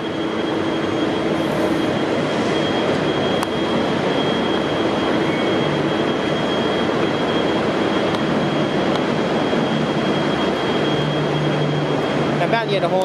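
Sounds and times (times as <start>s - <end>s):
diesel locomotive running: 0.0s - 13.0s
rail noise: 0.0s - 13.0s
thin high whine: 0.0s - 13.0s.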